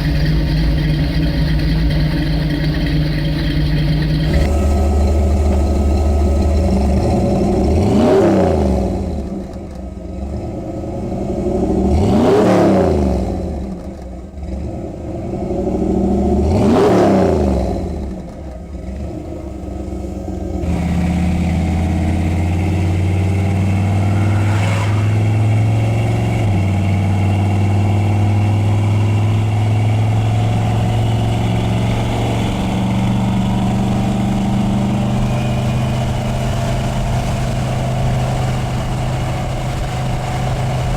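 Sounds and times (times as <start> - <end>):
v eight engine revving and idling: 0.0 - 40.9.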